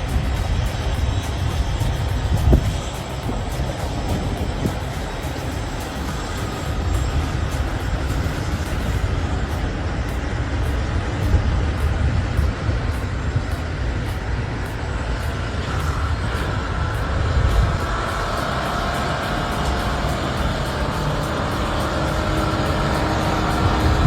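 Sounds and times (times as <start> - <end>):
heavy vehicle engine rumbling: 0.0 - 24.0
road traffic noise: 0.0 - 24.0.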